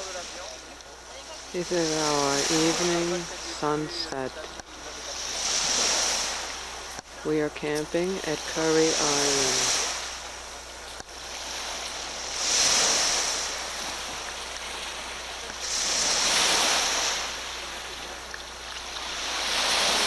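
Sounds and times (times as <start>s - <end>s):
waves washing on shore: 0.0s - 20.0s.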